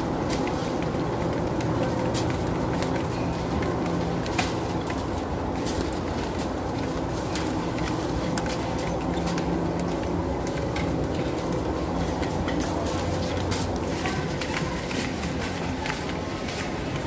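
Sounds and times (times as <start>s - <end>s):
shopping cart rattling: 0.0s - 17.0s
supermarket din: 0.0s - 17.0s.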